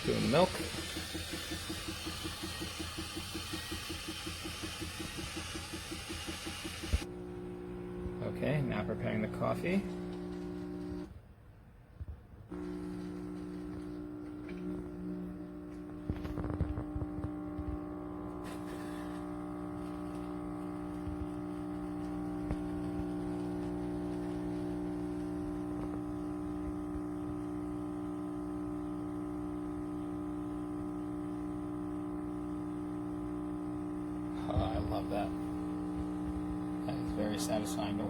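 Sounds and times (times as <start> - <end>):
espresso machine pump hum: 0.0 - 11.1, 12.5 - 38.0.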